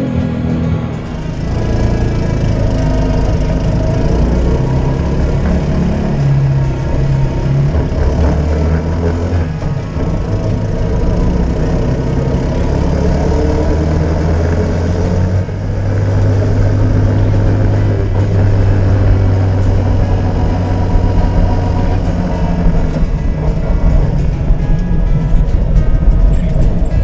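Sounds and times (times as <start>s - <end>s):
trike engine running: 0.0s - 27.0s.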